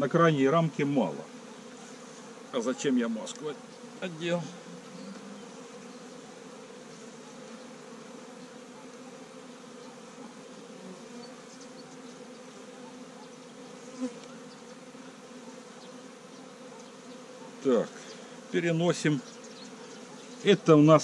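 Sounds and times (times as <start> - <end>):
bees humming: 0.0 - 21.0.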